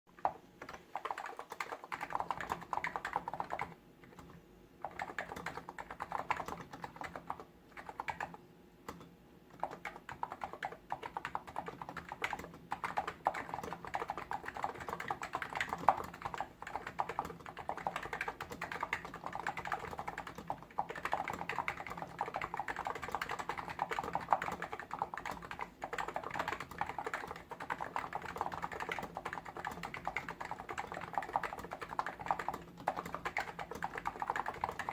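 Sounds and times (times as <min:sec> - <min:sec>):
keyboard typing: 0:00.1 - 0:34.9.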